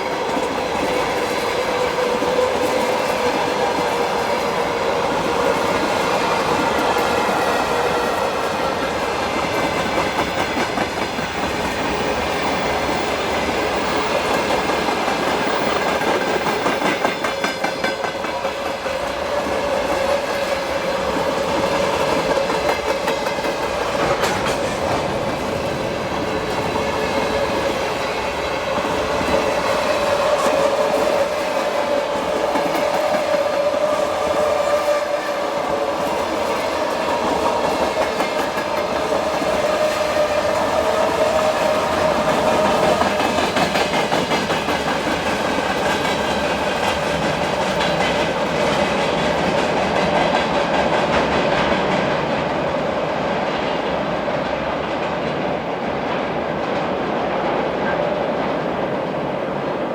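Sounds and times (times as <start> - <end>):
train wheels clattering over rail joints: 0.0 - 34.9, 35.7 - 59.4.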